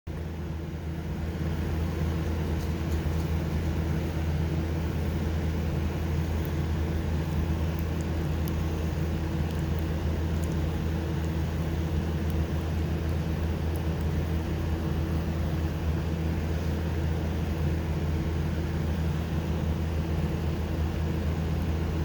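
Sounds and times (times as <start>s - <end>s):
low motor hum: 0.1s - 22.0s.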